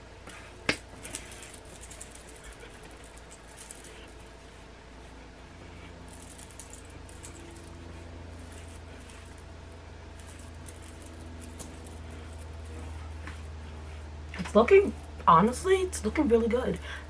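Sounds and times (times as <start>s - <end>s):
fingers rustling through curly hair: 0.0s - 17.0s.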